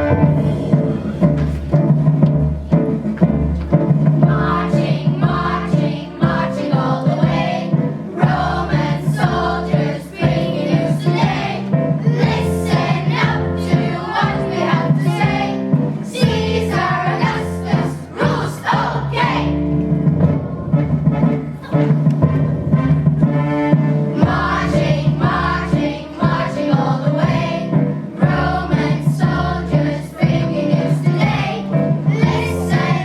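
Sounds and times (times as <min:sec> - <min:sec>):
children's choir singing: 0:00.0 - 0:01.8, 0:04.1 - 0:33.0
instrumental backing with bass: 0:00.0 - 0:33.0.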